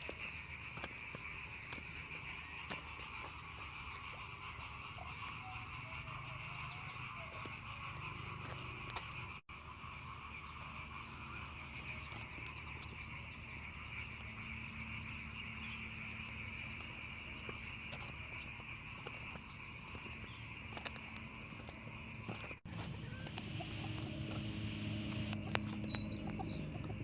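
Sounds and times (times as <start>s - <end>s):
faint bird chirps: 0.0s - 27.0s
frogs calling: 0.0s - 27.0s.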